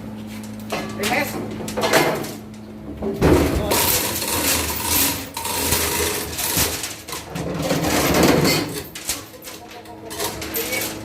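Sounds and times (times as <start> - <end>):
metallic clattering and knocking: 0.6 - 11.0.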